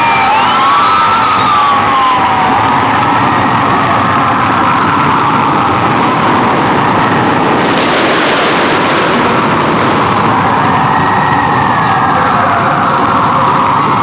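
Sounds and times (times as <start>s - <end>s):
motorcycle engines rumbling: 0.0s - 14.0s
sirens wailing: 0.0s - 14.0s.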